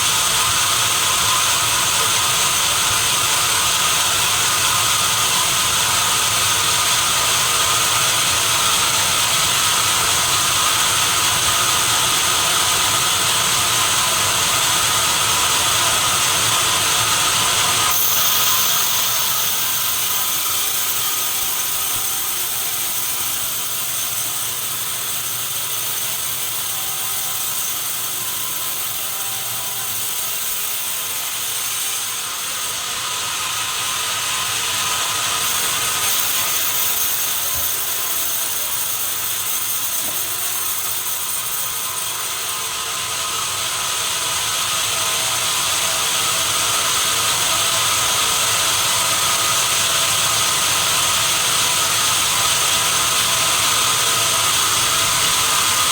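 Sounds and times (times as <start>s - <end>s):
saw cutting timber with whine: 0.0s - 55.9s.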